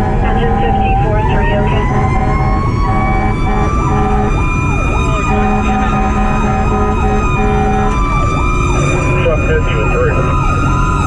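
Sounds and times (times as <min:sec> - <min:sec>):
electronic siren yelping: 0:00.0 - 0:11.0
fire engine engine and road noise: 0:00.0 - 0:11.0
steady blaring tones: 0:00.0 - 0:11.0
wailing siren: 0:00.0 - 0:11.0.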